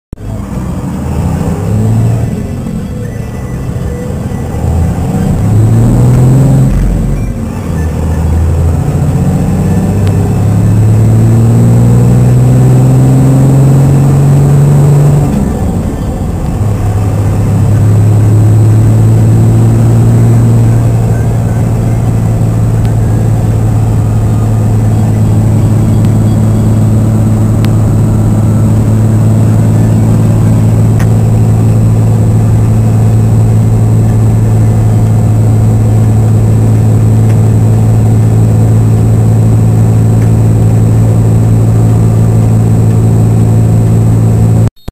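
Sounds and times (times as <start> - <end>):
diesel engine droning in cab: 0.1 - 44.9.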